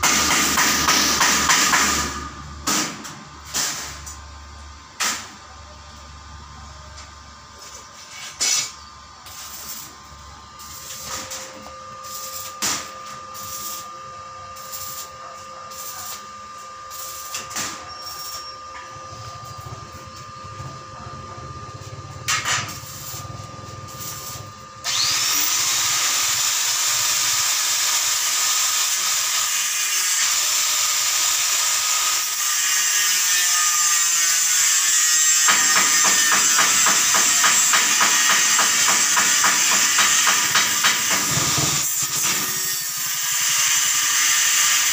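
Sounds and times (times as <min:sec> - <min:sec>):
arc welding crackling: 0:00.1 - 0:05.4, 0:07.6 - 0:20.7, 0:21.5 - 0:44.9
angle grinder whine: 0:07.0 - 0:44.9
grinder grinding steel: 0:07.6 - 0:20.4, 0:21.6 - 0:44.9.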